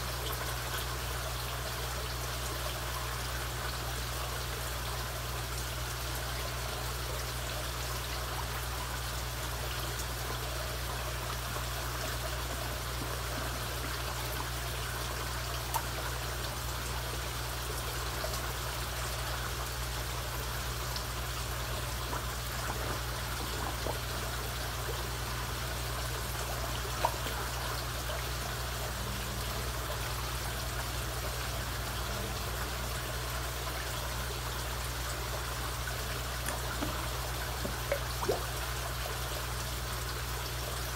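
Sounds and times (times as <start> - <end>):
low steady hum: 0.0 - 40.9
pond water trickling: 0.0 - 40.9.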